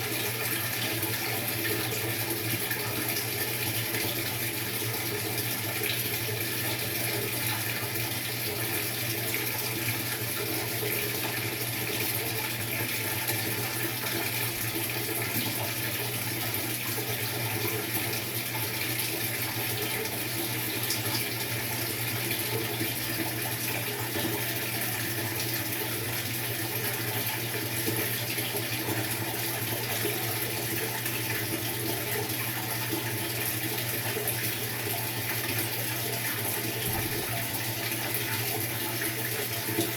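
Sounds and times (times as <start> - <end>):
water rushing in washer tub: 0.0 - 39.9.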